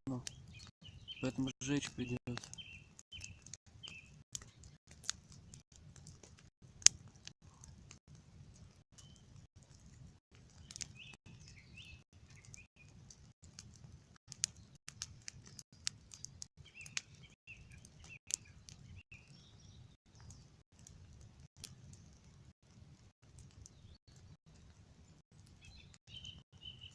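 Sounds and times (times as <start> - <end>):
bonfire crackling and popping: 0.1 - 26.9
small birds chirping: 0.1 - 26.9.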